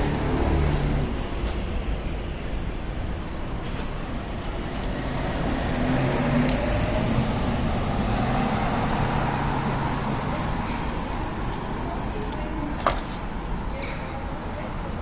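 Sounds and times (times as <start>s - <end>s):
rumble of passing vehicles: 0.0s - 15.0s
vehicle engine: 0.0s - 15.0s.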